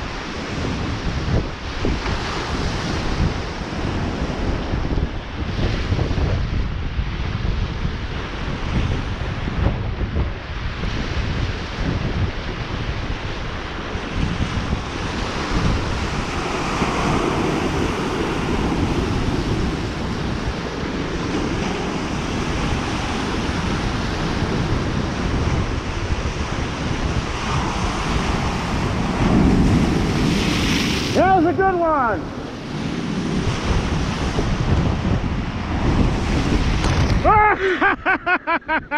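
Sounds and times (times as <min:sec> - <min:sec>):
waves washing onto shore: 0:00.0 - 0:38.9
wind buffeting microphone: 0:00.0 - 0:38.9.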